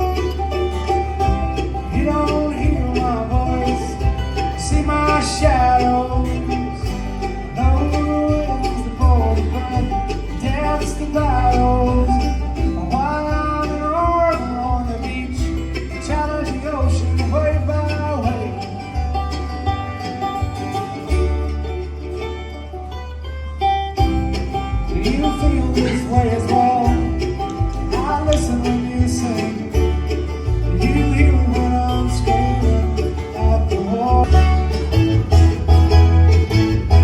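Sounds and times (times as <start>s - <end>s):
banjo: 0.0s - 37.0s
guitar: 0.0s - 37.0s
melodic lead line: 0.0s - 37.0s
steady bass line: 0.0s - 37.0s.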